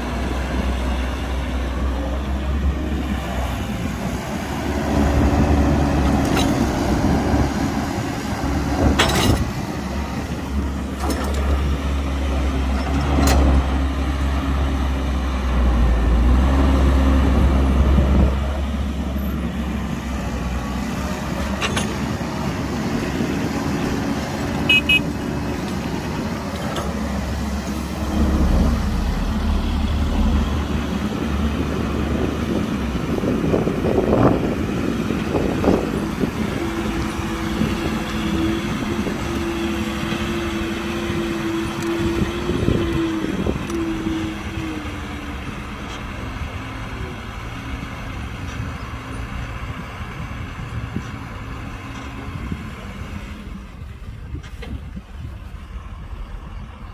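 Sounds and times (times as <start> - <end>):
heavy machinery diesel engine: 0.0 - 56.9.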